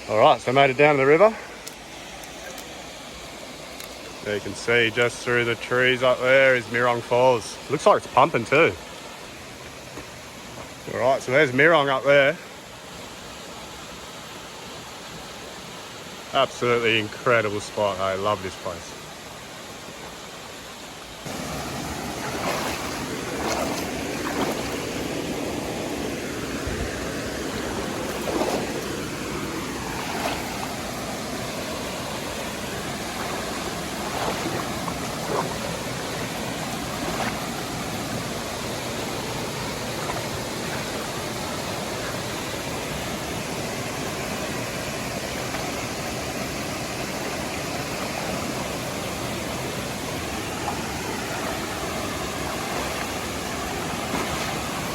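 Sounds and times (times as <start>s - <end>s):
creek and waterfall rushing: 0.0s - 54.9s.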